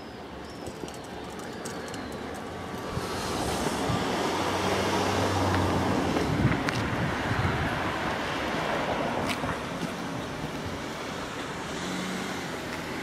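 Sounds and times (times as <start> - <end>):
passing vehicle rumble: 1.9 - 13.0.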